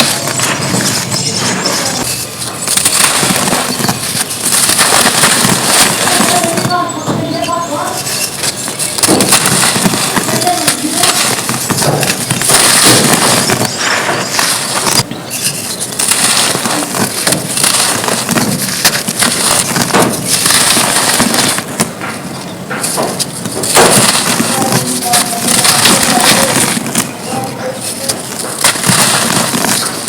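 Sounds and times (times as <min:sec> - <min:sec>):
dirt crackling and crunching: 0:00.0 - 0:30.0.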